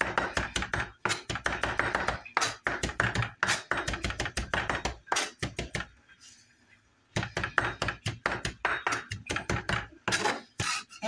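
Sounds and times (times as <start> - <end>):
knife chopping on wooden board: 0.0 - 5.9, 7.2 - 10.7.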